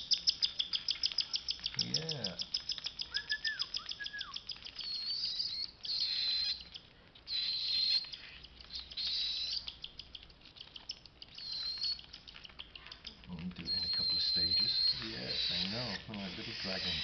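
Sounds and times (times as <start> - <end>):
bird chicks begging calls: 0.0 - 17.0.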